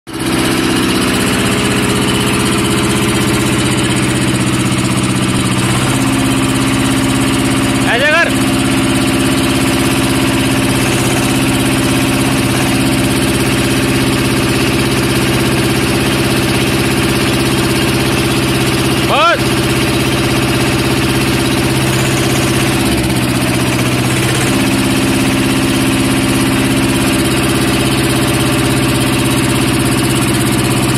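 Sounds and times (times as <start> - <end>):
tractor diesel engine running: 0.1 - 30.9.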